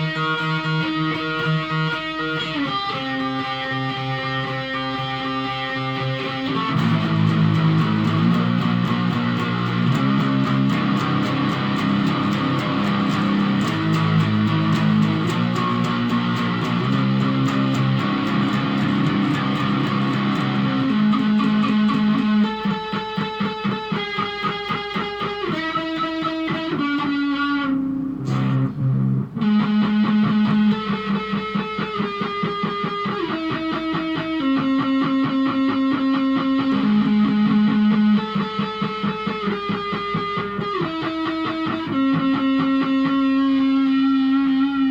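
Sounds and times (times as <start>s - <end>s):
guitar playing: 0.0s - 44.9s.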